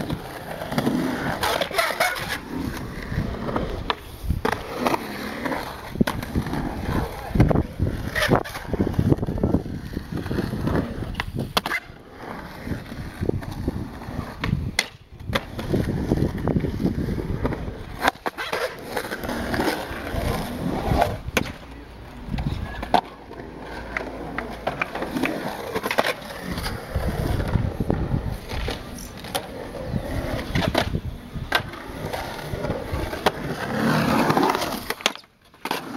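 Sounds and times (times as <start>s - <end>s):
skateboard clacks: 0.0s - 12.0s, 12.6s - 35.9s
skateboard wheels rolling on concrete: 0.0s - 35.9s.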